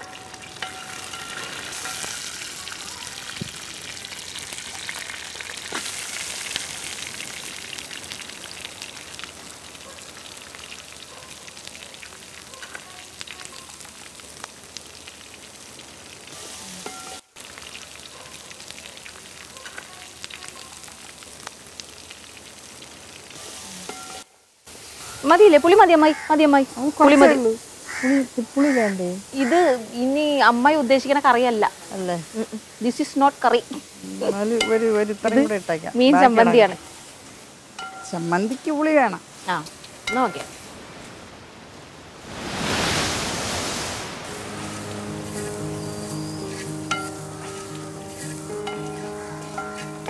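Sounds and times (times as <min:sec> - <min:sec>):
food sizzling in hot oil: 0:00.0 - 0:40.9, 0:42.2 - 0:50.0.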